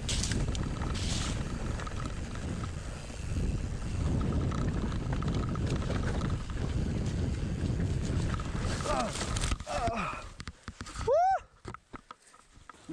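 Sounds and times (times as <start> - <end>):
wind buffeting microphone: 0.0 - 10.4
bike rolling on dirt trail: 0.0 - 11.1
small rattles: 0.0 - 12.8.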